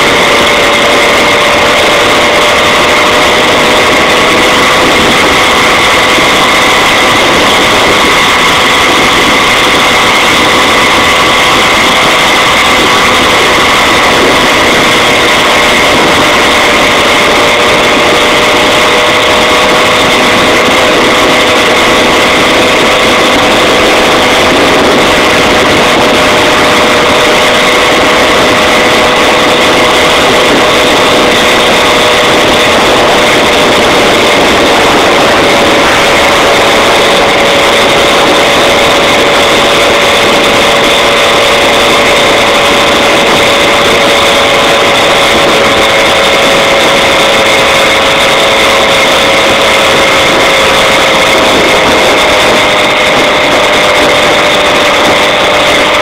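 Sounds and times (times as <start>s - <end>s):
two-stroke engine running: 0.0s - 56.0s.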